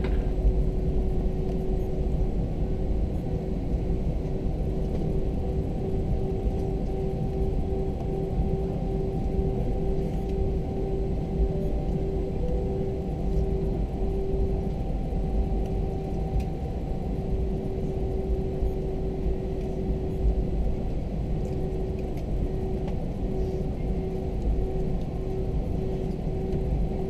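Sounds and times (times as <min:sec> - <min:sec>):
steady cabin hum: 0:00.0 - 0:27.0.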